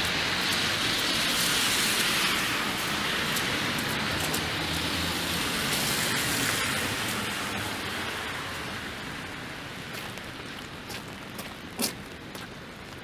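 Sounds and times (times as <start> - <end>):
tyre hiss of passing traffic: 0.0 - 10.8
freezing rain hissing: 0.0 - 11.3.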